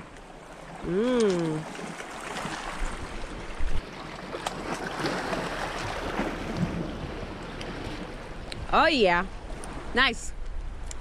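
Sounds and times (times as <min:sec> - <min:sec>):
waves washing over rocks: 0:00.7 - 0:10.1.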